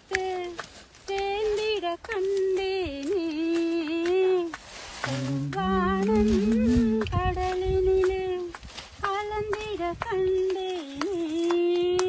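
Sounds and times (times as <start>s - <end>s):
lower voice singing: 0.0s - 12.0s
woman singing unaccompanied: 0.0s - 12.0s.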